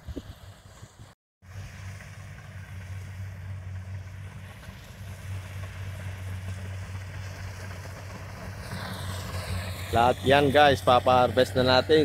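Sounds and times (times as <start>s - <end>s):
harvester engine hum: 0.0s - 12.0s.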